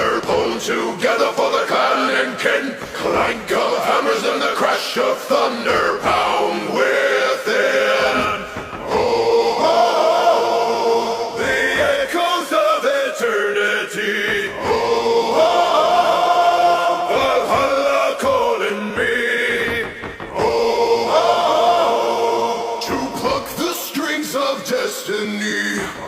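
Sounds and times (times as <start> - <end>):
male choir chanting: 0.0 - 26.0.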